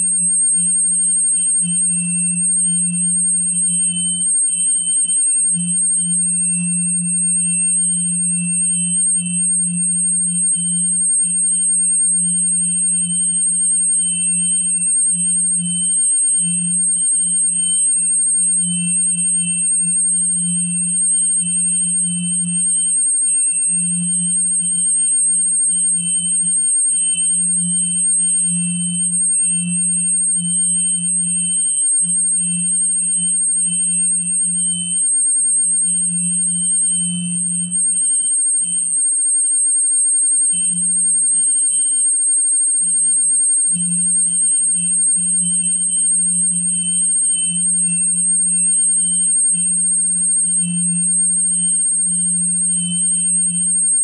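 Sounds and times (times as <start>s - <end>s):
faint higher electronic tones: 0.0s - 54.0s
high-pitched whine: 0.0s - 54.0s.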